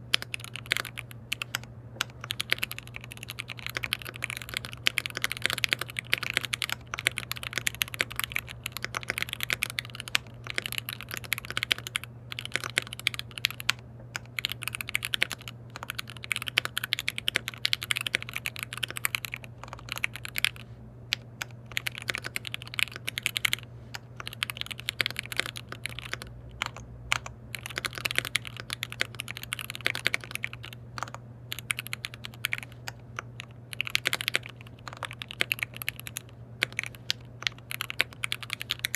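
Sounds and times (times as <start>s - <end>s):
mechanical keyboard typing: 0.0s - 23.6s, 24.2s - 38.9s
faint low hum: 0.0s - 38.9s.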